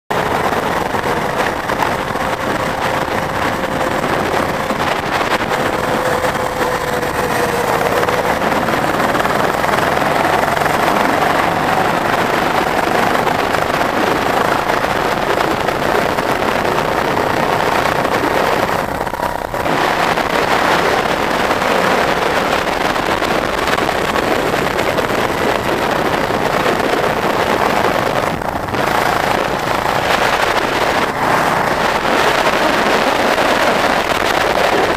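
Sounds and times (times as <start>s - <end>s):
go-kart engine racing: 0.1s - 34.9s.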